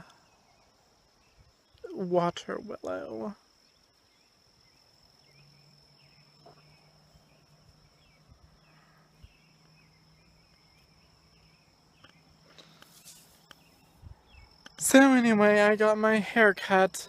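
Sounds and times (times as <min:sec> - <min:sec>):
faint bird chirps: 0:00.0 - 0:15.0
high-pitched insect trill: 0:00.0 - 0:17.0.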